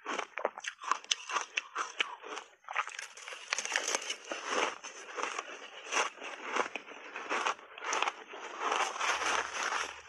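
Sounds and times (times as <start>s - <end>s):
ice being chewed crunching: 0.0s - 10.0s.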